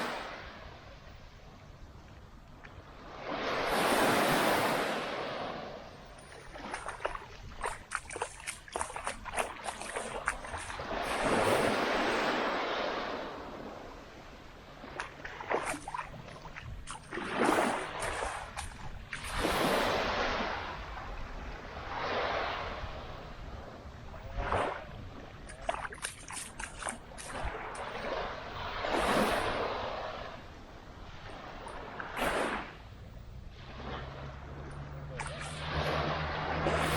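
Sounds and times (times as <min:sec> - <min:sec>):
small waves breaking on beach: 0:00.0 - 0:36.9.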